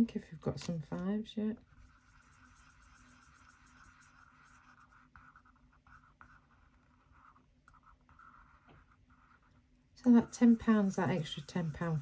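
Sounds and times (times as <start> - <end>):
marker scribbling on paper: 1.7 - 9.5, 10.1 - 12.0.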